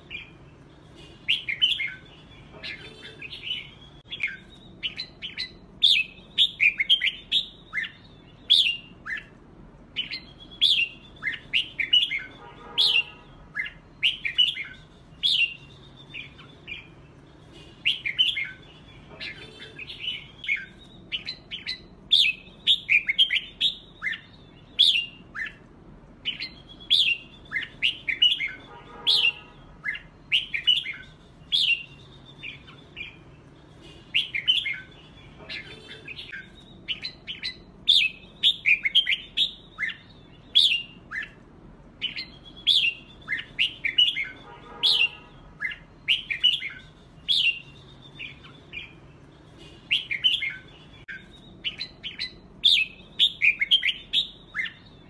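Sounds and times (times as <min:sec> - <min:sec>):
bulbuls singing: 0:00.0 - 0:55.0.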